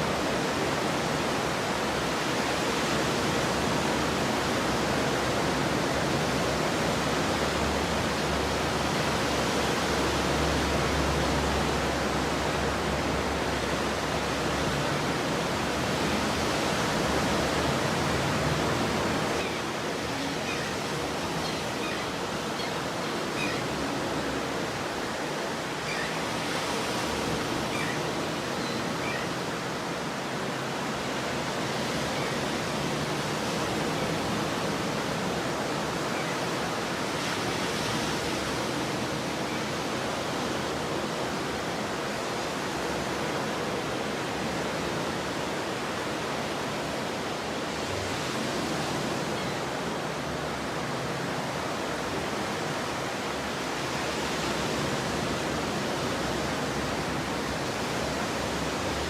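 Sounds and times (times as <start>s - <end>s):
ocean waves breaking: 0.0s - 59.0s.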